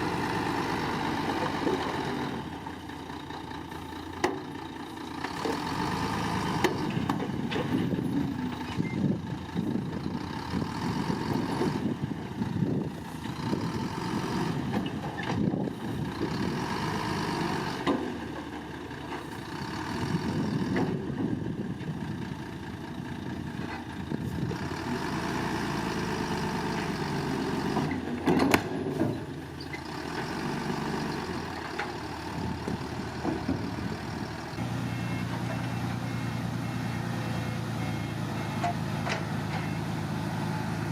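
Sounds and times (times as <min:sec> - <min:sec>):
heavy diesel machinery working: 0:00.0 - 0:40.9.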